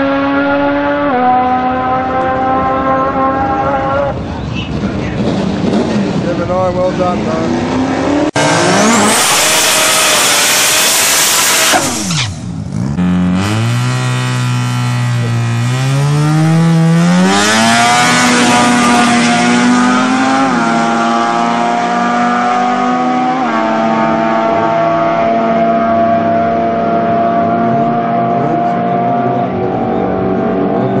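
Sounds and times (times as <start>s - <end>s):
drag car accelerating: 0.0s - 31.0s.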